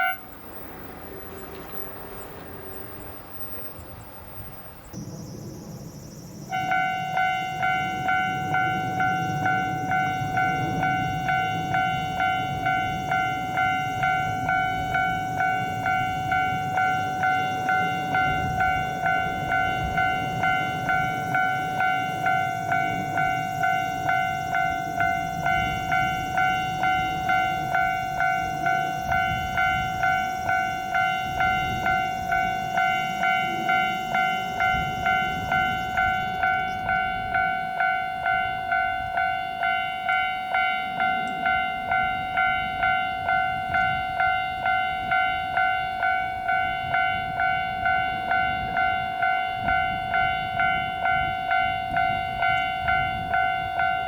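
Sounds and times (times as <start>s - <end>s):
level crossing bell ringing: 0.0s - 0.7s, 6.7s - 54.0s.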